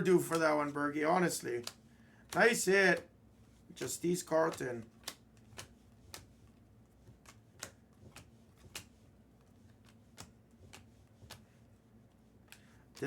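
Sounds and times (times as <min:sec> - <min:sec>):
trading cards clicking and snapping: 0:00.2 - 0:00.7, 0:01.3 - 0:03.1, 0:03.7 - 0:13.0.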